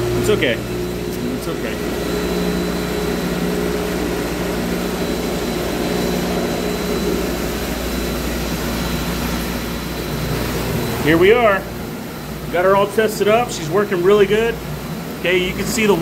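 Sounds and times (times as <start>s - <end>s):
pump motor humming: 0.0s - 16.0s.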